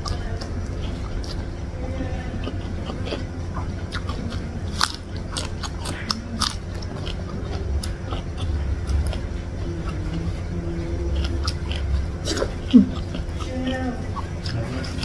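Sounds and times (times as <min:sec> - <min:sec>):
crunchy chewing of vegetable: 0:00.0 - 0:15.0.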